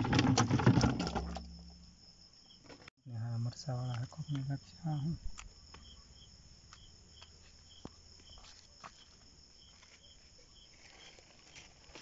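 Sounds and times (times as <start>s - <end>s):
insect chirping trill: 0.0s - 12.0s.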